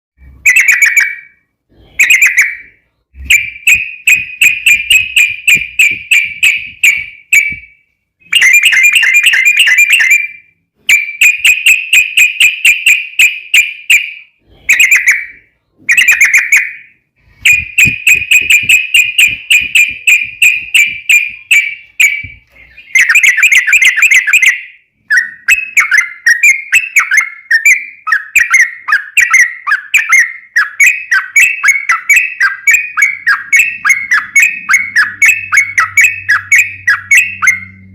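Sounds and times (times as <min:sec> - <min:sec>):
bird singing rapid trill: 0:02.0 - 0:37.9.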